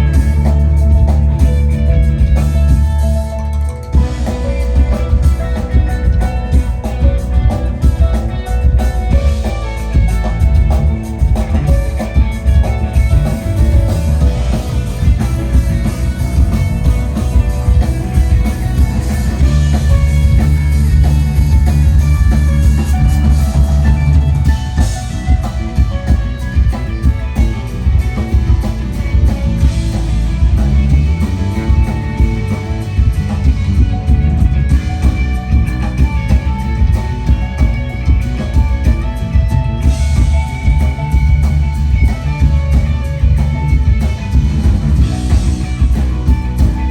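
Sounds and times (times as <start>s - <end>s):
bass guitar: 0.0s - 46.9s
drum kit beat: 0.0s - 46.9s
electric guitar: 0.0s - 46.9s.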